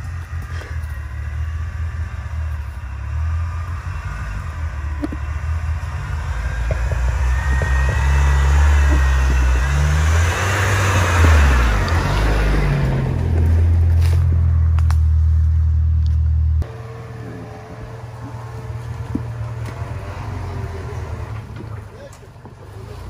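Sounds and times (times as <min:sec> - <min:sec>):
off-road vehicle engine: 0:00.0 - 0:23.0.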